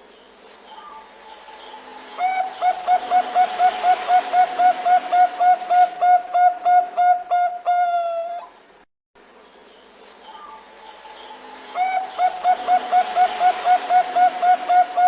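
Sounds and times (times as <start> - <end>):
dove cooing: 0.8 - 8.5, 10.4 - 15.0.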